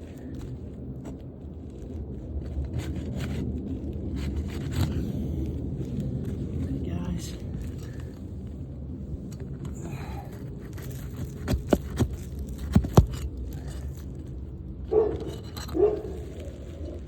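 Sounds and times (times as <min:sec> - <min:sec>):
shingle scraping: 0:00.0 - 0:08.6, 0:09.2 - 0:17.0.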